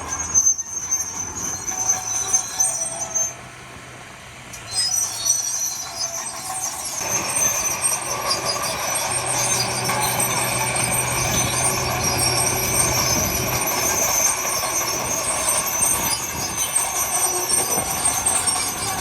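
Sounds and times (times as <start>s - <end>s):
high metallic squeal: 0.0s - 3.4s, 4.5s - 19.0s
diesel machinery rumbling: 0.0s - 19.0s.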